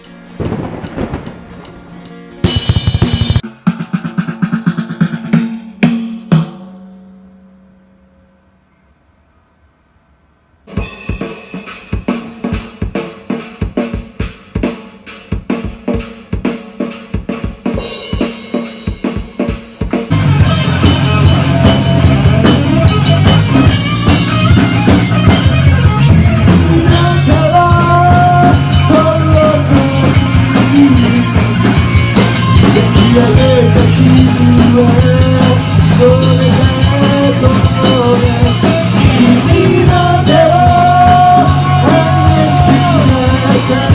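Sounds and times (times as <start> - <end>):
rock band music: 0.0 - 7.0, 10.7 - 43.9
drum kit playing: 0.0 - 7.3, 10.7 - 43.9.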